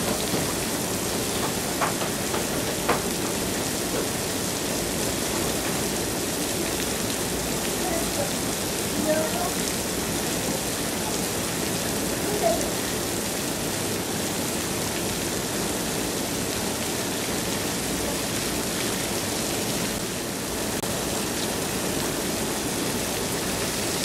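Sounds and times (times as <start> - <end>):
fountain water splattering: 0.0 - 24.0.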